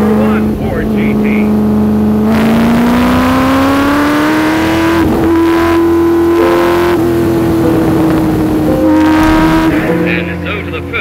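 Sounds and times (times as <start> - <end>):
racing car engine accelerating: 0.0 - 10.9.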